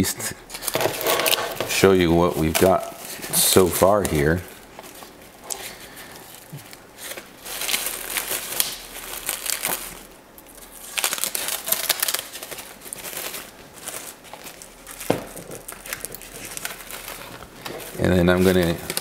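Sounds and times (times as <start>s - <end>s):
plastic wrap and tape crinkling: 0.5s - 19.0s.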